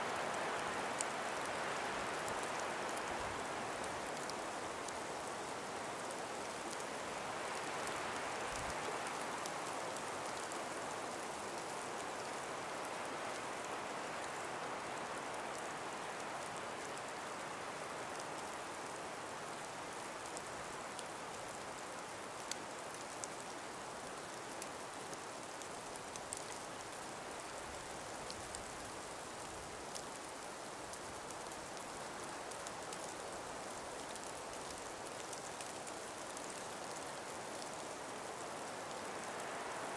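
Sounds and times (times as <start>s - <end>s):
breeze through forest: 0.0s - 39.9s.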